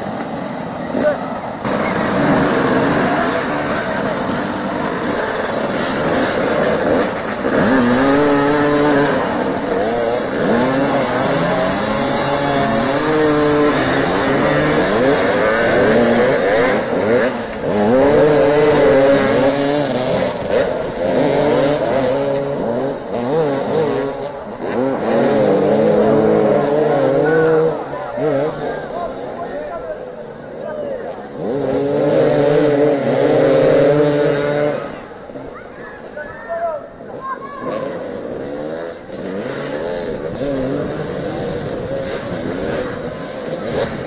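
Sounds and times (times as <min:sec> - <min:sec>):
motorcycles revving: 0:00.0 - 0:44.0.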